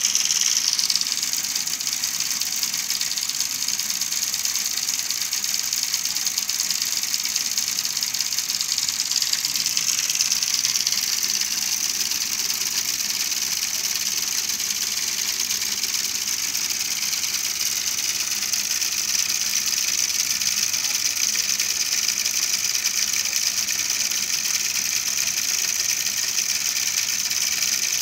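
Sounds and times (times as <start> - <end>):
model truck mechanical whir: 0.0 - 28.0.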